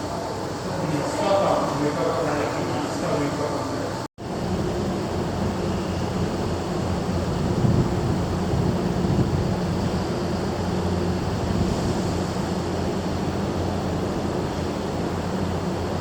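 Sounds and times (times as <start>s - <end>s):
ferry machinery hum: 0.0s - 16.0s
wind and water noise: 0.0s - 16.0s.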